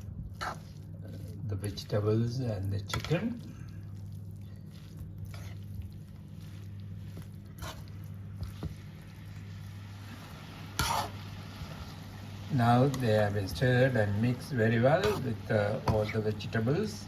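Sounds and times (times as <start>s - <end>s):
pasta squishing in a wok: 0.0s - 17.0s
steady low hum: 0.0s - 17.0s.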